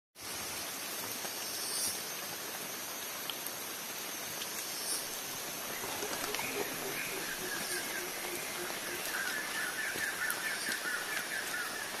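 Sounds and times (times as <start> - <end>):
rain on forest leaves: 0.2 - 12.0.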